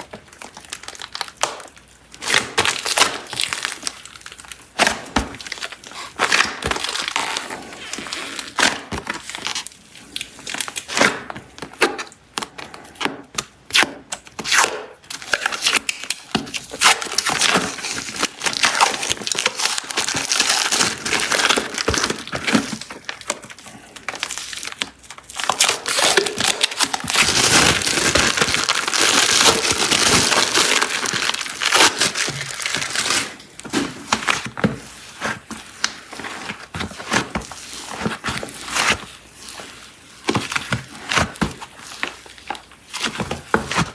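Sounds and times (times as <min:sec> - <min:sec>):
plastic packaging crinkling: 0:00.0 - 0:12.9, 0:14.5 - 0:43.9.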